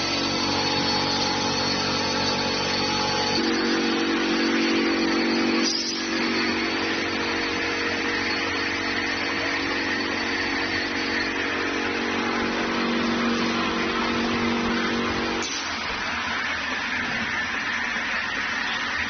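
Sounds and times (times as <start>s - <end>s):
motor hum: 0.0s - 19.0s.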